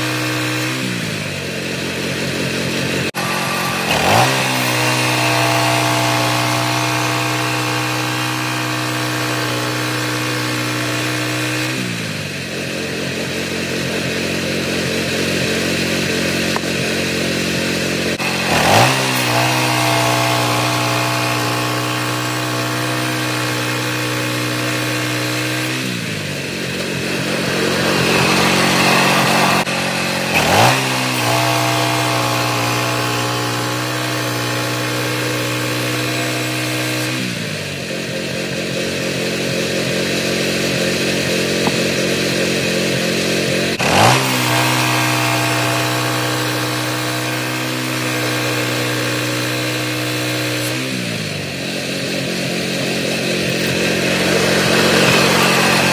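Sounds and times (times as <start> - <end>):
sawmill gas engine running: 0.0 - 55.9.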